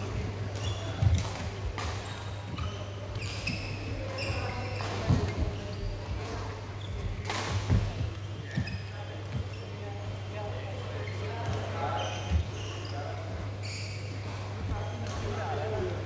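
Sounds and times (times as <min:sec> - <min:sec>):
shoes squeaking on court floor: 0:00.0 - 0:16.0.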